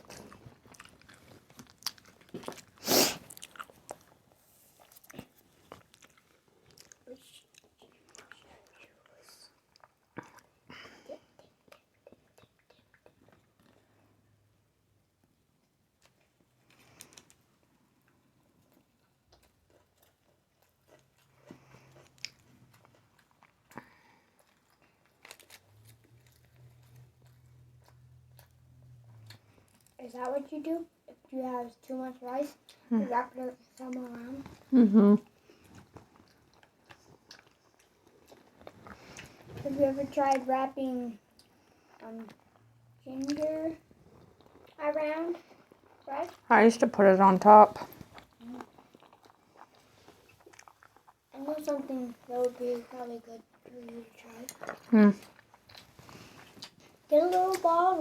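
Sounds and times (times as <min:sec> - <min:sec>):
mouth chewing food: 0:00.0 - 0:14.5, 0:15.6 - 0:31.2, 0:32.2 - 0:58.0.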